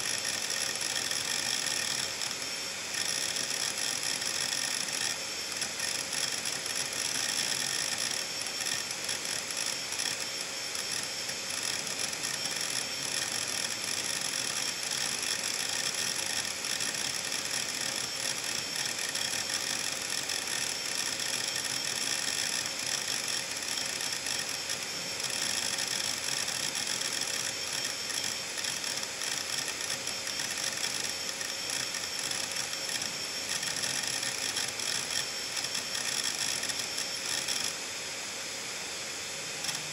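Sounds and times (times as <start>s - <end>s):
high whine of spinning platters: 0.0s - 39.9s.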